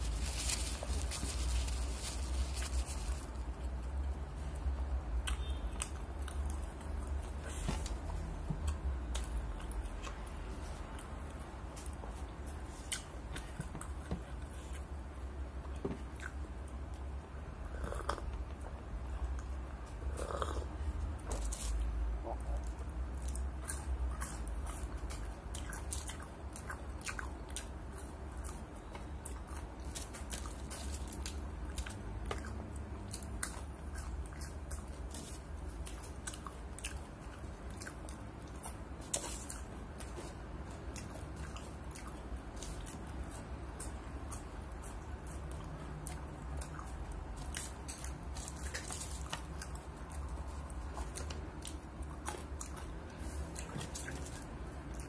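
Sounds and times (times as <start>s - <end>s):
chewing fries with mouth clicks: 0.0s - 55.0s.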